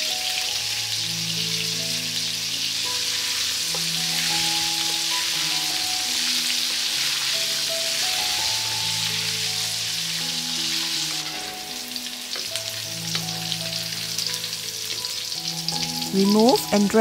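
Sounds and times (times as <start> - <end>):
chicken deep-frying in oil: 0.0 - 17.0
soft background music: 0.0 - 17.0.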